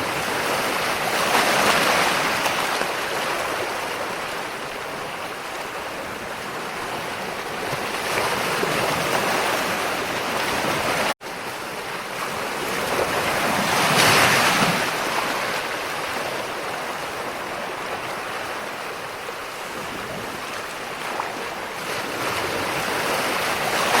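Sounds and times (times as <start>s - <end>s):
ocean waves washing on shore: 0.0s - 24.0s.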